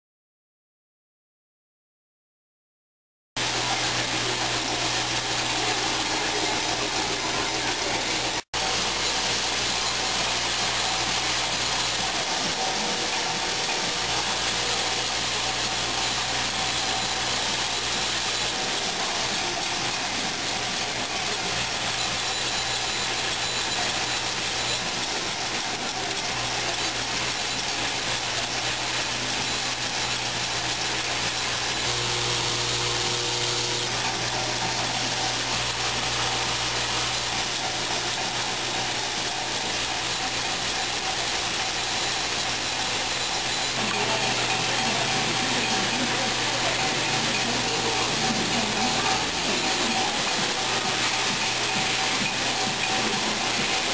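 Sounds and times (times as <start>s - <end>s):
screws rattling on metal tracks: 3.4s - 53.9s
vibratory feeder humming: 3.4s - 53.9s.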